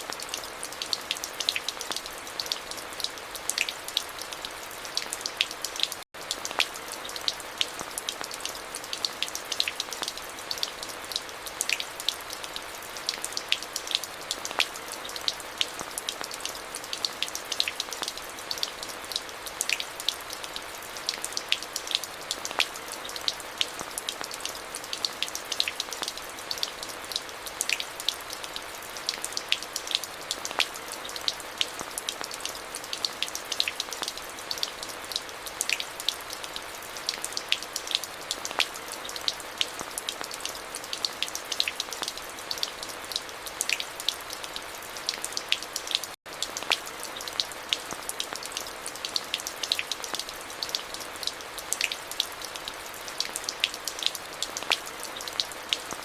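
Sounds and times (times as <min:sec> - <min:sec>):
raindrops striking close by: 0:00.0 - 0:56.0
steady rain hiss: 0:00.0 - 0:56.0.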